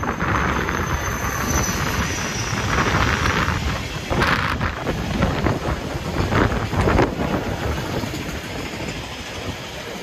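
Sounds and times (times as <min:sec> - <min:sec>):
diesel locomotive passing: 0:00.0 - 0:10.0
freight wagons rumbling on rails: 0:00.0 - 0:10.0.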